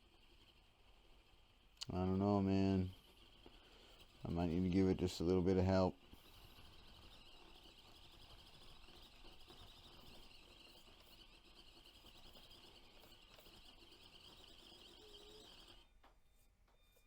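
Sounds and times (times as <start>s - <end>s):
small electric motor whirring: 0.0s - 15.9s.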